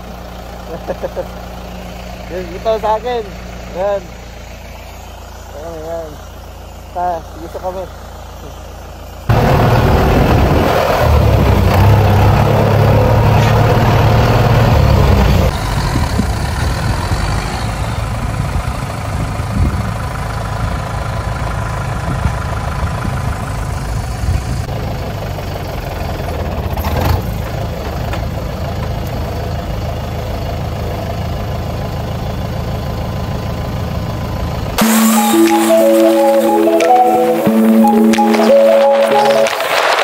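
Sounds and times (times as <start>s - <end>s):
tractor diesel engine running: 0.0s - 35.2s.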